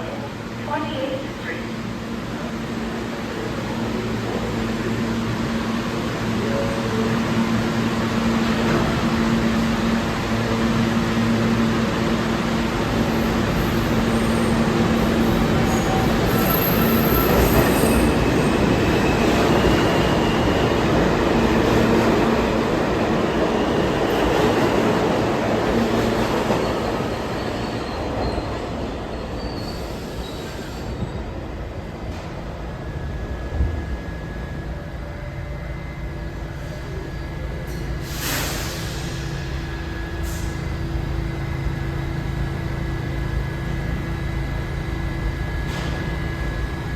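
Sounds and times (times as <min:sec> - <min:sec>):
subway train rumble: 0:00.0 - 0:46.9.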